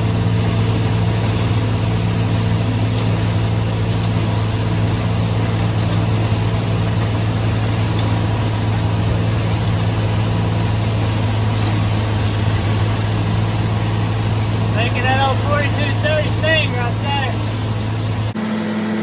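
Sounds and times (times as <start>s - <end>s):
tractor engine and mixer drone: 0.0s - 19.0s.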